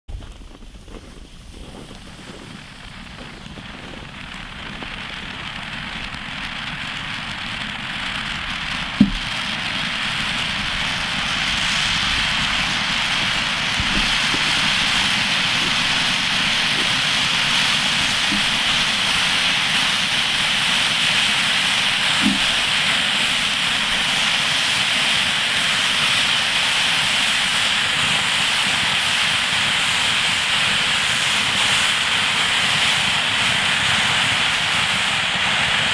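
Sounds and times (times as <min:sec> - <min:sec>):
firework pops: 0:00.1 - 0:35.2
firework sparks hissing: 0:00.1 - 0:35.9.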